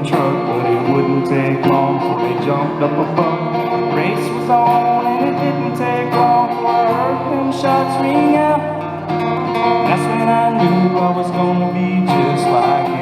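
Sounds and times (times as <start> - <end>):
country song on guitars: 0.0 - 13.0.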